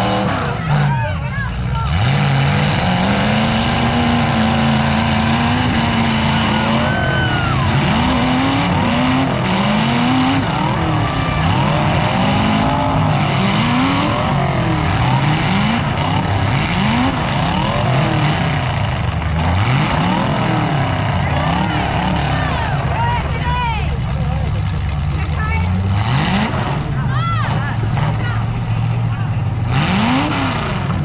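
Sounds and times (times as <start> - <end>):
car engine revving hard: 0.0 - 28.8, 29.5 - 31.0.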